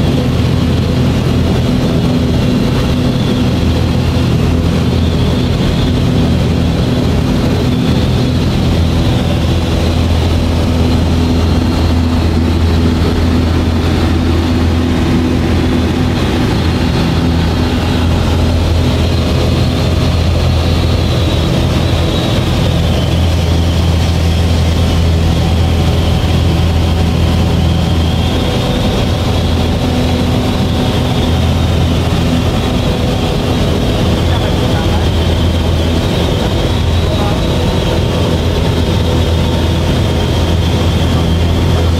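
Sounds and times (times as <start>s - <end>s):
aircraft engine and propeller drone: 0.0s - 41.9s.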